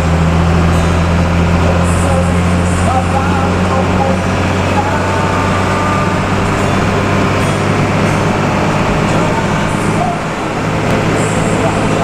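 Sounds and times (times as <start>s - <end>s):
bus engine droning: 0.0s - 12.0s
road noise: 0.0s - 12.0s.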